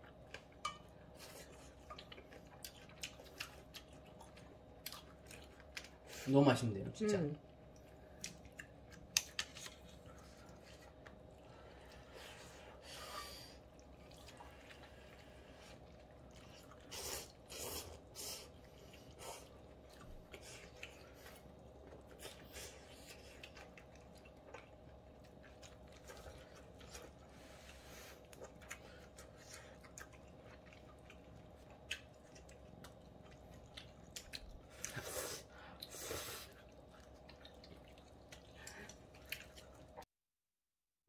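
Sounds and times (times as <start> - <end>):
quiet chewing: 0.0 - 6.3, 7.5 - 40.1
low room hum: 0.0 - 40.1.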